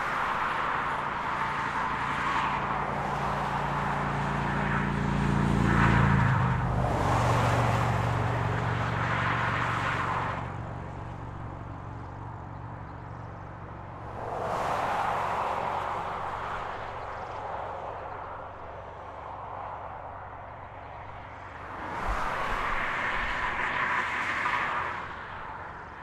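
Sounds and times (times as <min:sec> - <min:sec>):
traffic tyre noise: 0:00.0 - 0:26.0.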